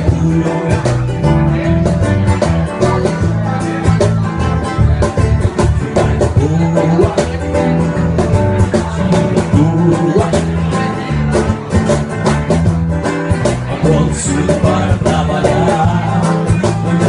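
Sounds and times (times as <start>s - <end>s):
guitar: 0.0s - 17.0s
live band playing: 0.0s - 17.0s
steady beat: 0.0s - 17.0s.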